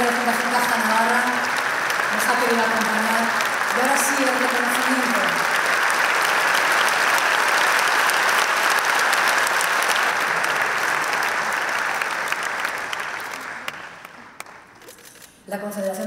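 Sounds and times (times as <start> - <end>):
audience applauding: 0.0 - 15.1.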